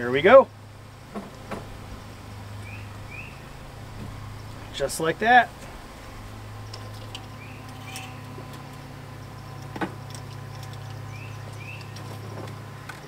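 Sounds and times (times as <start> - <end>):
computer fan humming: 0.0 - 13.0.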